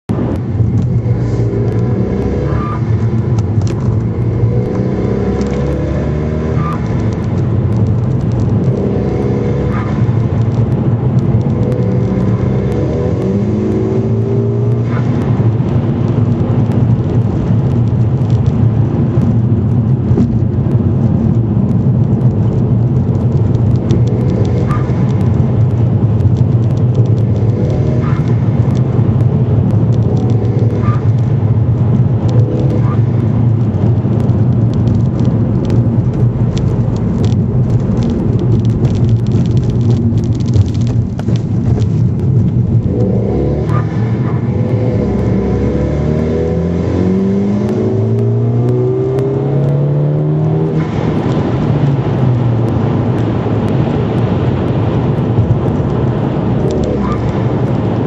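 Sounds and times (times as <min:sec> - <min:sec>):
turbocharged car engine running: 0:00.0 - 0:58.0.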